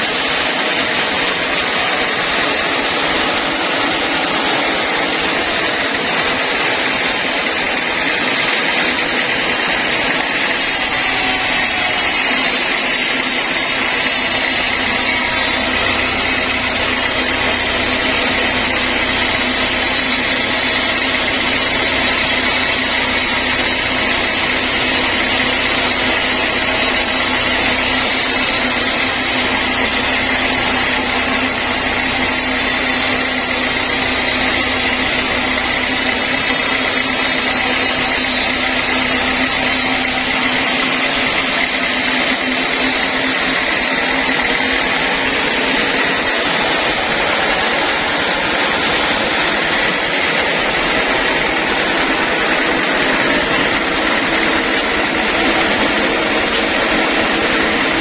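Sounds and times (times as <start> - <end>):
high whine: 0.0 - 58.0
machine drone: 0.0 - 58.0.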